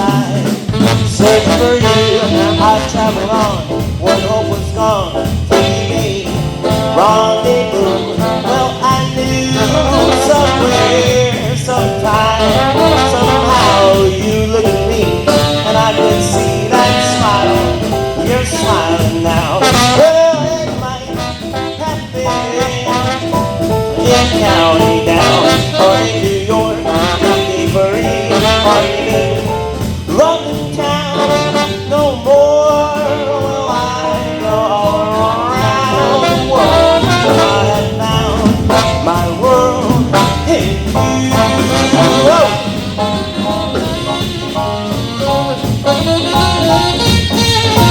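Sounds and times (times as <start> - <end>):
brass horns: 0.0 - 47.9
swing band playing: 0.0 - 47.9.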